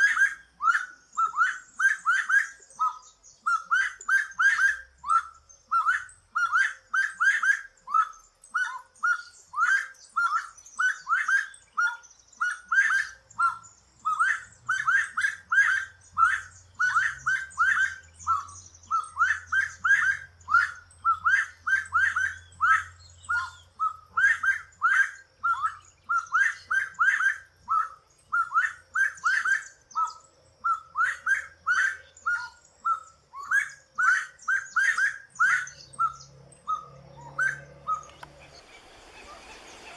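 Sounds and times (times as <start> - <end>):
finch chirping song: 0.0 - 39.9.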